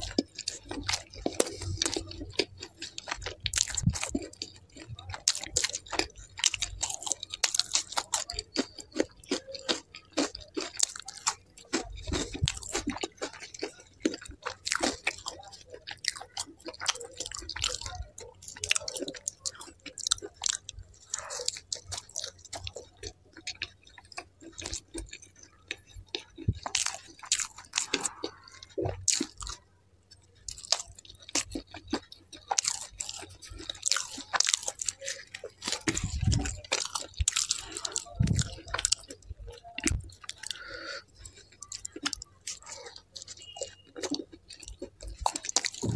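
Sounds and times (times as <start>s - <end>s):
mouth clicks and smacks: 0.0s - 29.6s, 30.2s - 45.9s
person chewing and biting food: 0.0s - 45.9s.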